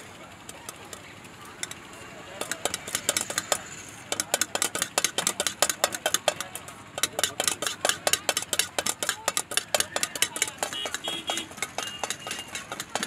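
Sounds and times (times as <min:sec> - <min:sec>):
metal utensil scraping steel vessel: 0:02.4 - 0:13.0.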